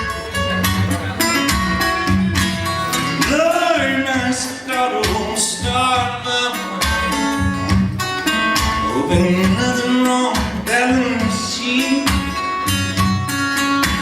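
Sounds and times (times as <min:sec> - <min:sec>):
fingerpicked acoustic guitar: 0:00.0 - 0:14.0.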